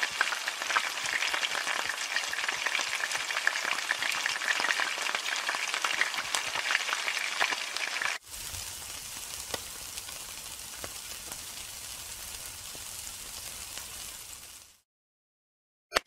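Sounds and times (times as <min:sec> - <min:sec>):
meat sizzling on a grill: 0:00.0 - 0:14.8.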